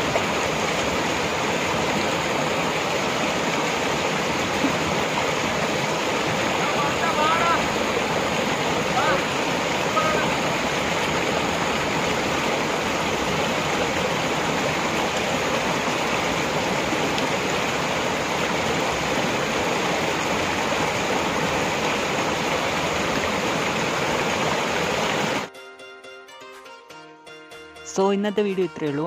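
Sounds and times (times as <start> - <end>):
stream rushing over stones: 0.0 - 25.5.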